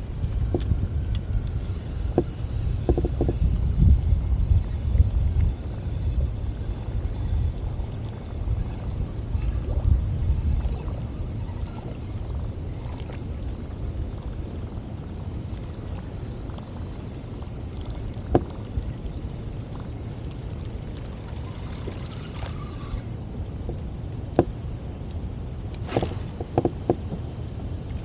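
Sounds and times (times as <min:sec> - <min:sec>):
steady low rumble: 0:00.0 - 0:28.0
water sloshing around kayak: 0:05.4 - 0:28.0.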